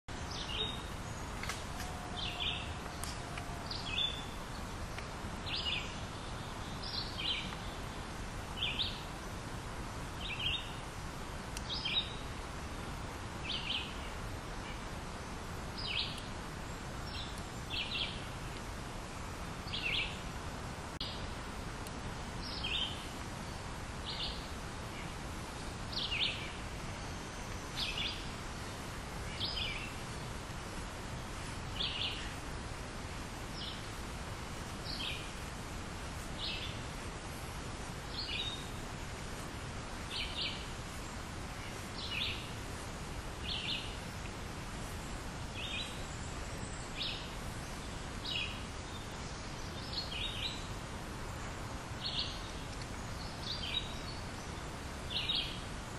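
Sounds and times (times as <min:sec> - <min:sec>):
outdoor background hiss: 0:00.1 - 0:55.9.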